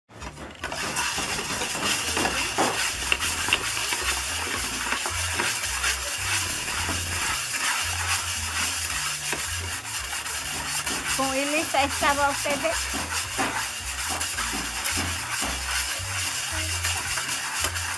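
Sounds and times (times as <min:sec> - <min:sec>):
hand scraping clay in metal bowl: 0:00.1 - 0:17.9.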